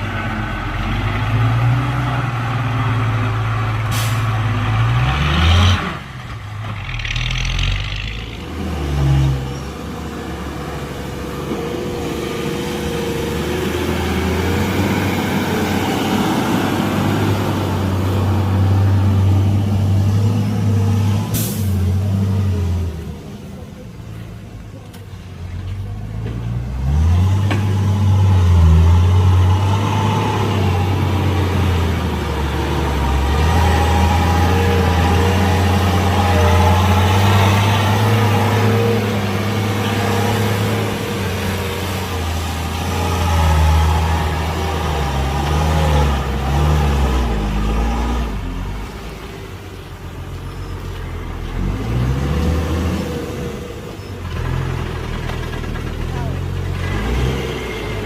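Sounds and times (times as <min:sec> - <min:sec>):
heavy diesel engine under load: 0:00.0 - 0:58.0.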